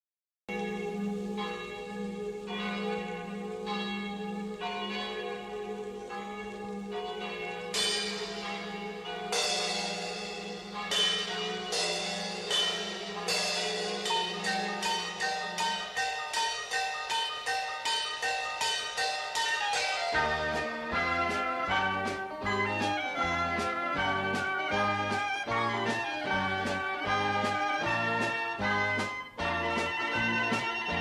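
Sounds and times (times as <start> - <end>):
chiming bells melody: 2.5 - 29.2.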